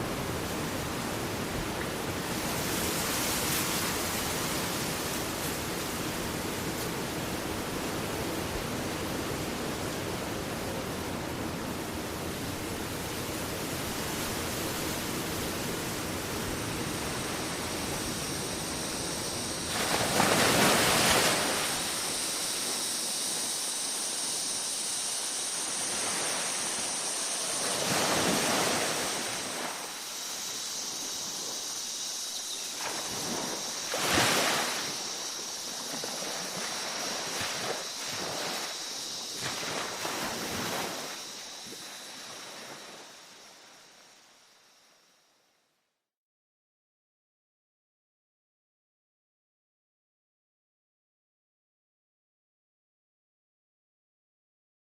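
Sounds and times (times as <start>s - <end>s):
waves washing on shore: 0.0s - 44.5s
insects droning: 0.0s - 46.0s.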